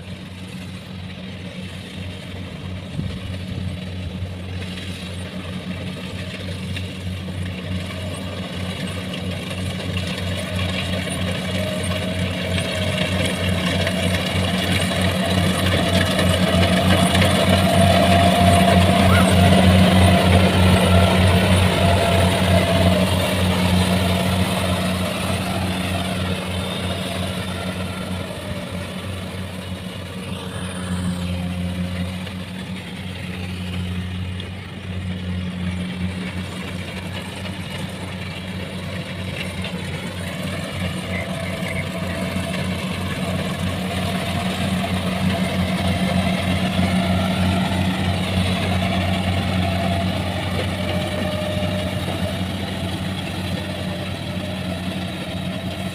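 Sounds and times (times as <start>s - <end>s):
combine harvester diesel engine: 0.0s - 55.9s.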